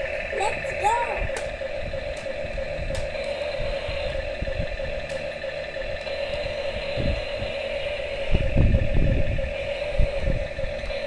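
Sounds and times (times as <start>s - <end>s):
low rumbling and clattering: 0.0s - 11.0s.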